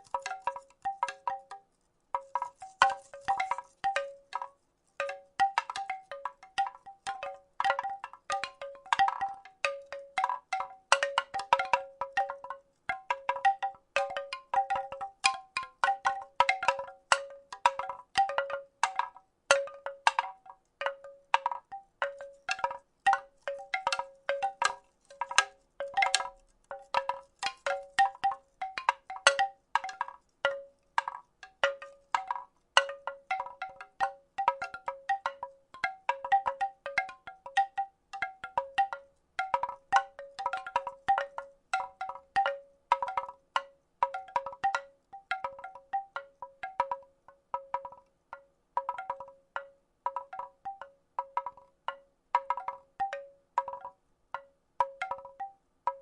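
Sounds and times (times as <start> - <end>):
wooden rattle clacking: 0.0 - 56.0.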